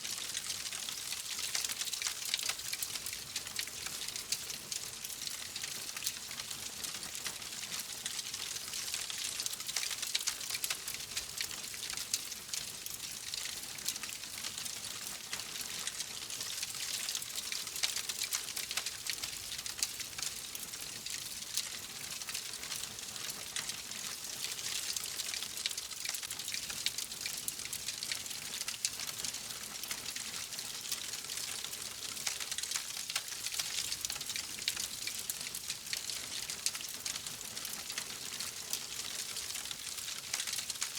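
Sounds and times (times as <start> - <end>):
wood fire crackling: 0.2 - 40.9.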